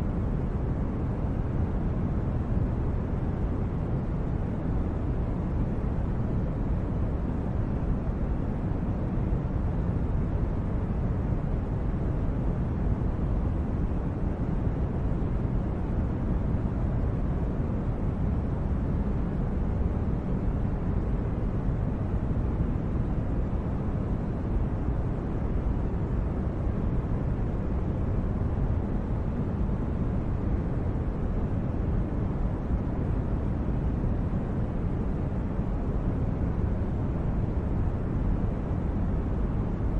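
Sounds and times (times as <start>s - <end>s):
steady low rumbling noise: 0.0s - 39.9s.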